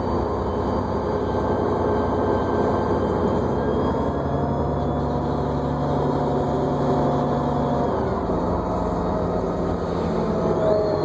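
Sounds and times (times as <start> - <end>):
bus engine droning with whine: 0.0 - 11.0.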